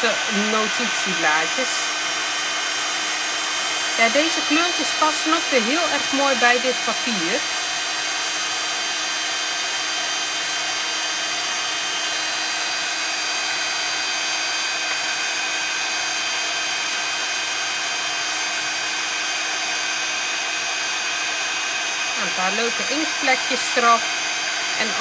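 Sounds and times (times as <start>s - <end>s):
heat tool fan whirring: 0.0s - 25.0s.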